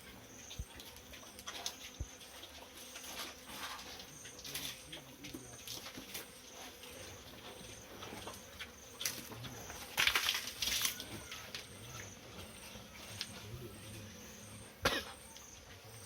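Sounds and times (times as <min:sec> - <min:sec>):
pigs munching feed: 0:00.0 - 0:16.0.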